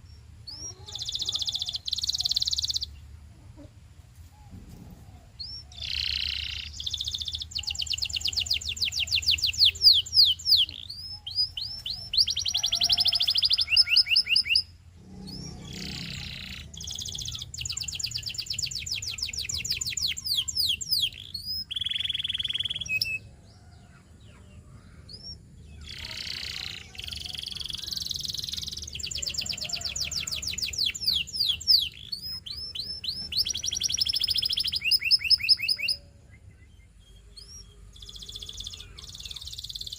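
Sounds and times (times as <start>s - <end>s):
canary singing: 0.0s - 3.0s, 5.2s - 39.9s.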